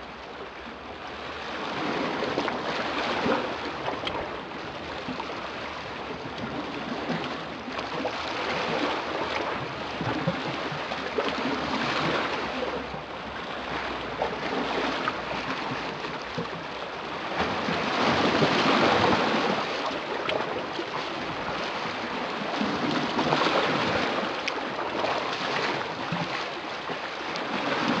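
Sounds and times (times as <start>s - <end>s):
sea waves breaking: 0.0s - 28.0s.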